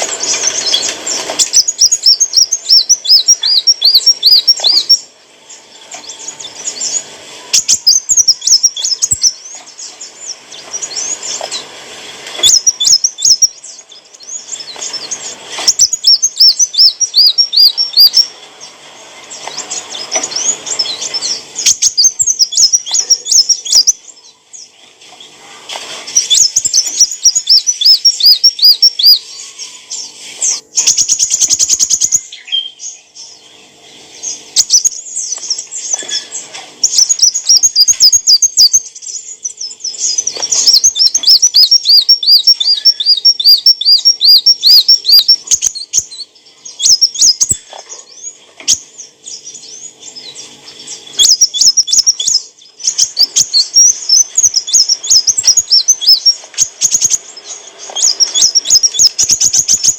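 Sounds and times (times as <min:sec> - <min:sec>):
sunbird rapid high chirping: 0:00.0 - 0:59.9.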